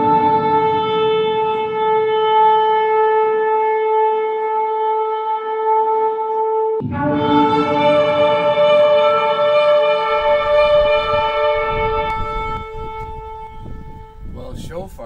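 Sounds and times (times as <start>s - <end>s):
shofar blast: 0.0s - 14.4s.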